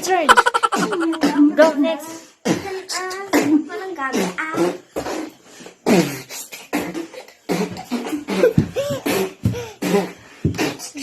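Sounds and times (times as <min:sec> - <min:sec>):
person beatboxing: 0:00.3 - 0:01.6, 0:02.4 - 0:11.0.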